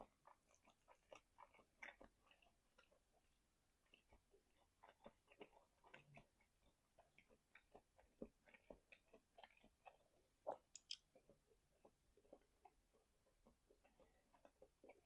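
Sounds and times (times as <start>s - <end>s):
mouth chewing food: 0.0s - 15.0s.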